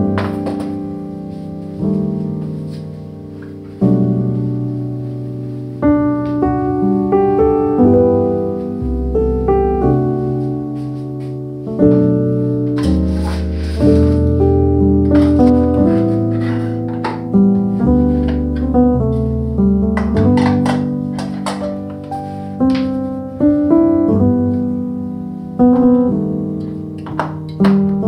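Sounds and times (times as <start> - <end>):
piano chords: 0.0 - 28.0.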